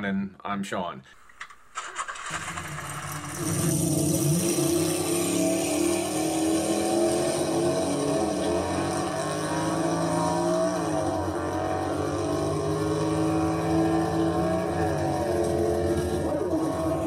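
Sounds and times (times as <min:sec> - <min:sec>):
car engine accelerating: 0:01.8 - 0:17.0.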